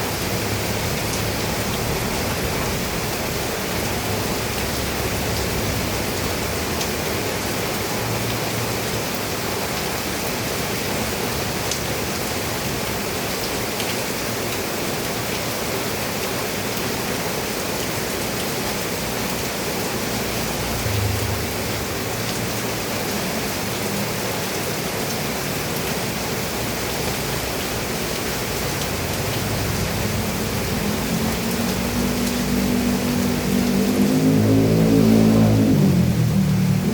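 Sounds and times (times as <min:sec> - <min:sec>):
heavy rain on a roof: 0:00.0 - 0:36.9.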